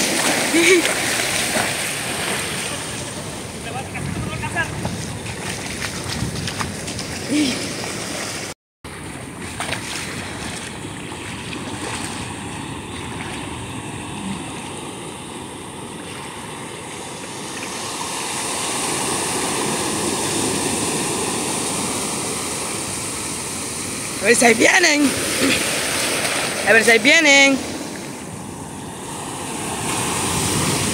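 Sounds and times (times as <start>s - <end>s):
ocean surf breaking on beach: 0.0s - 30.9s.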